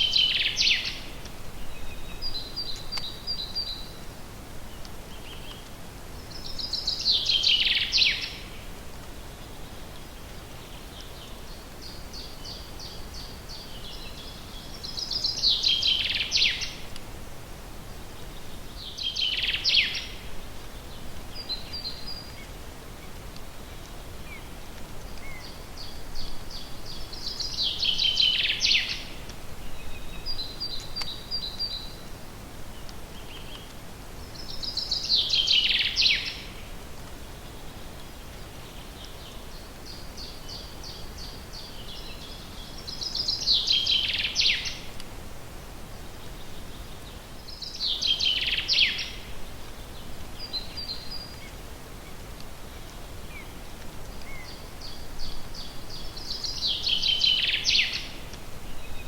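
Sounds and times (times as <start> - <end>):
faint background noise: 0.0 - 59.0
songbird singing: 0.0 - 59.0.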